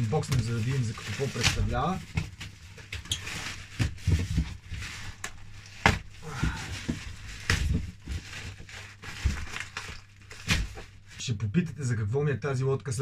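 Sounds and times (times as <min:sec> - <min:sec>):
cardboard packaging knocks and scrapes: 0:00.2 - 0:10.9.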